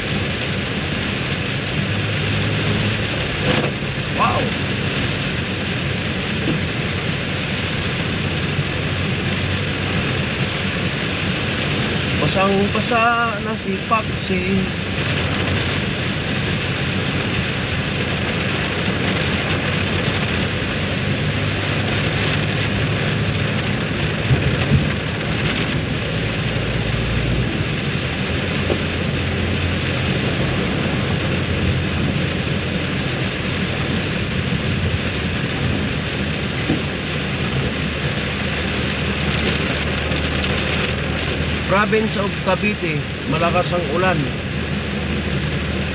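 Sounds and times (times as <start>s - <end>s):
heavy rain on car roof: 0.0s - 45.9s.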